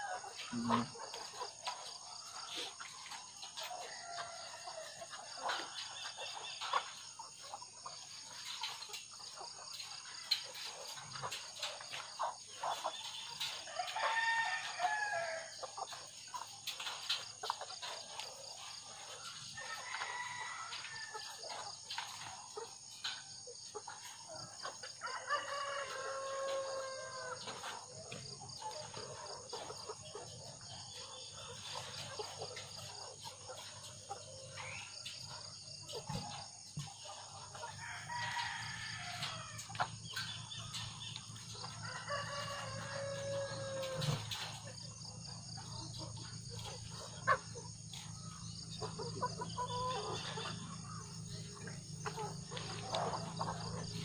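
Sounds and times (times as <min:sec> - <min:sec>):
chickens calling: 0:00.0 - 0:54.0
chickens clucking: 0:00.0 - 0:54.0.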